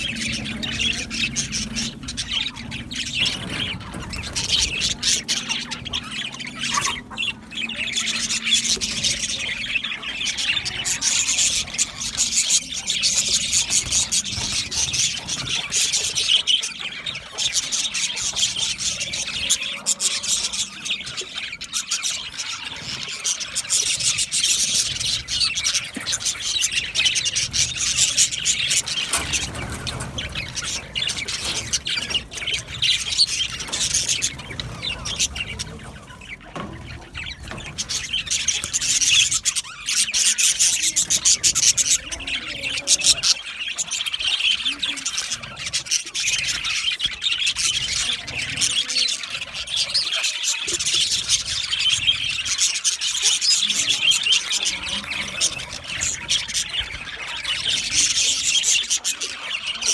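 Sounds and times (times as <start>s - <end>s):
budgerigars chirping and warbling: 0.0s - 59.9s.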